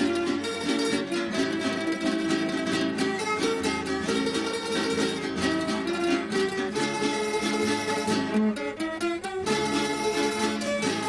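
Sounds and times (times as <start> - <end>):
plucked string ensemble playing: 0.0 - 11.0.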